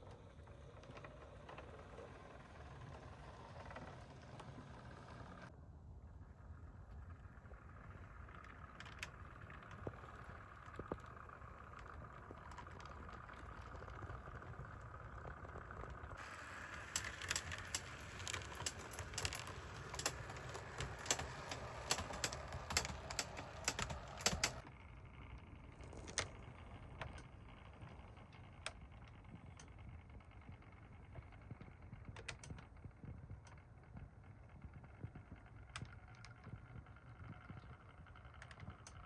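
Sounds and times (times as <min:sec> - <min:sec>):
model train motor whine: 0:00.0 - 0:05.5, 0:06.3 - 0:39.0
model train wheels clicking: 0:00.0 - 0:05.5, 0:06.4 - 0:39.0.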